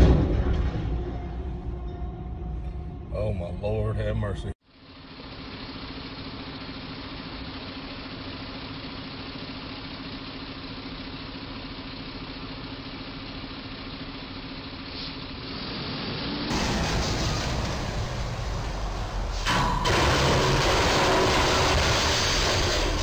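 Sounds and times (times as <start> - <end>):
street traffic engine hum: 0.0 - 23.0.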